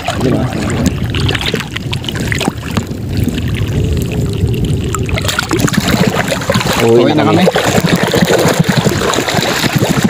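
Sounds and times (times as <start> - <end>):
steady low rumble: 0.0 - 9.2
water sloshing around wading people: 0.0 - 10.0.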